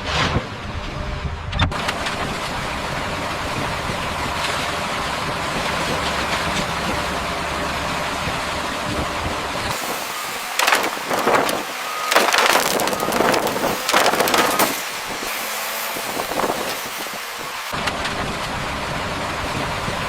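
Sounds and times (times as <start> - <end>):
machinery rumbling: 0.0 - 20.0.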